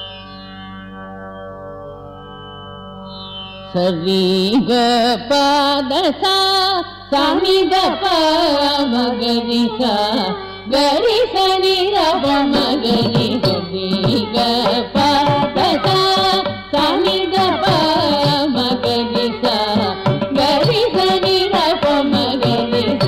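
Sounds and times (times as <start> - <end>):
person singing ornamented melody: 3.7 - 23.0.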